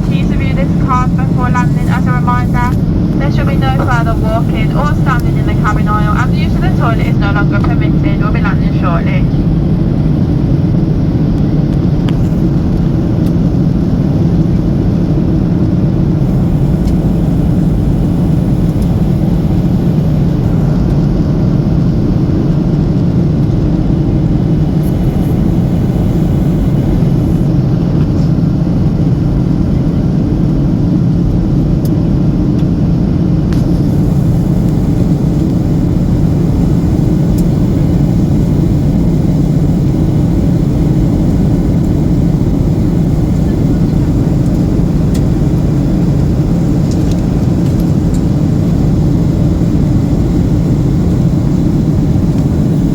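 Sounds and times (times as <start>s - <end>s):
jet engines in cabin: 0.0s - 52.9s.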